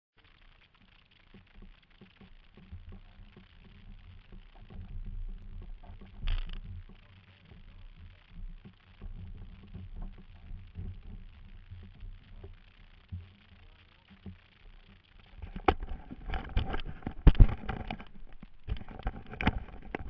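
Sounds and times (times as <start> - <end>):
hull bumping in water: 1.3 - 20.0.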